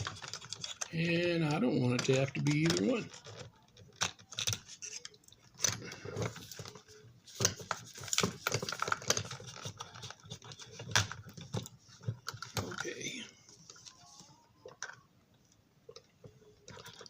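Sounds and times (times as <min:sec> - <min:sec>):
small parts and tools clicking: 0:00.0 - 0:13.0, 0:14.6 - 0:17.0.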